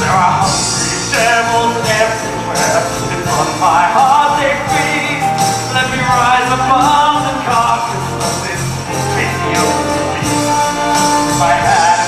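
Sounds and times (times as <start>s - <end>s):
jingling percussion: 0.0s - 12.0s
live band instrumental: 0.0s - 12.0s.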